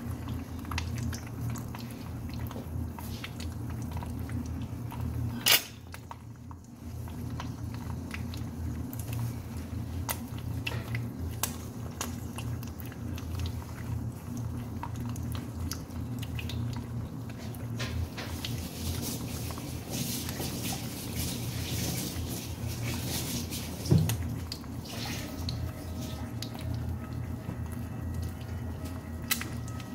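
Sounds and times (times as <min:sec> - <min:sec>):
low kitchen hum: 0:00.0 - 0:29.9.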